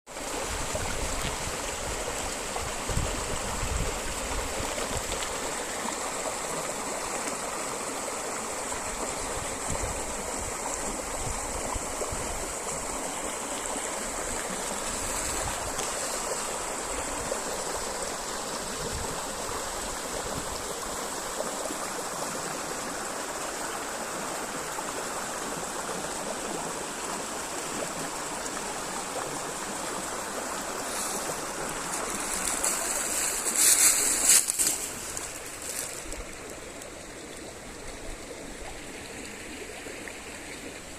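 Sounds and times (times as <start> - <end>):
river rushing over rocks: 0.1 - 40.9.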